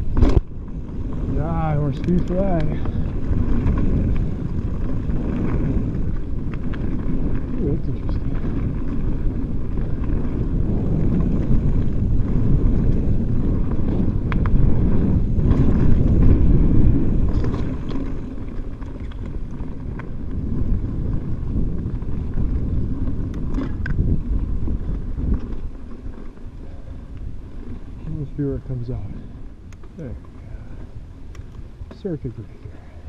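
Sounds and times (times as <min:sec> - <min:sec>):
bike clicks and rattles: 0:00.0 - 0:33.0
tyres rumbling on dirt: 0:00.0 - 0:33.0
wind rushing over microphone: 0:00.0 - 0:33.0.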